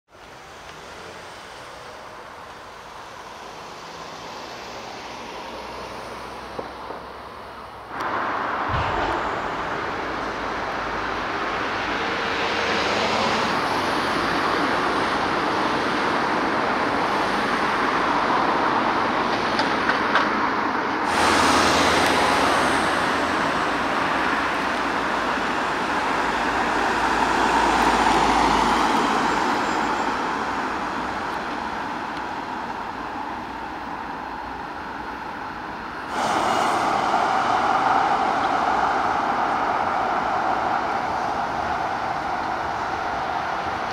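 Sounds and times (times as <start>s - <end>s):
traffic engine rumble: 0.1s - 43.9s.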